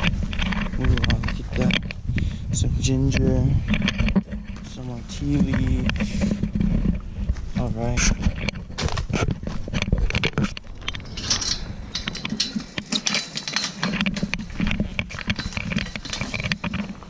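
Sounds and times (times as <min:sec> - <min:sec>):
footsteps on gravel path: 0:00.0 - 0:17.0.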